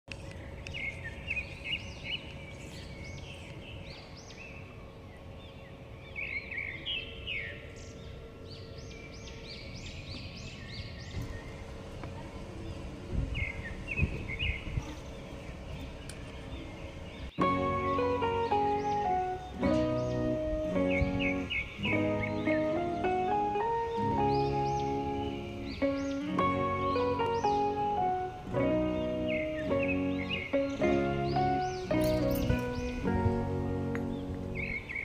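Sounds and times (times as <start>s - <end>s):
birds chirping: 0.1s - 35.0s
steady outdoor hum: 0.1s - 35.0s.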